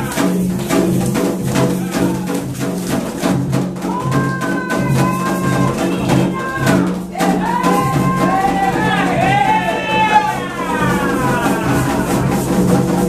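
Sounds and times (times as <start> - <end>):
drums beating steady rhythm: 0.0 - 13.0
voices singing: 0.0 - 13.0.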